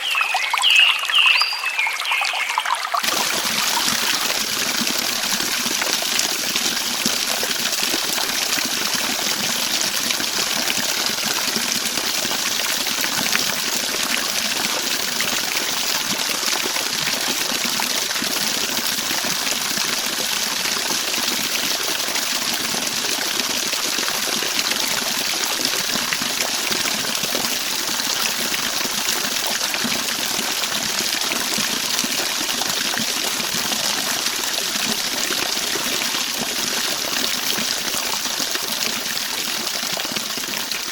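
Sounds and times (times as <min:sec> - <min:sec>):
running water trickling and gushing: 0:00.0 - 0:40.9.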